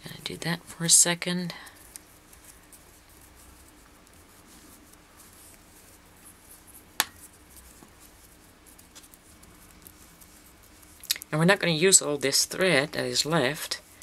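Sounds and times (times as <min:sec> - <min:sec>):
threads rustling in hands: 0:00.0 - 0:14.0.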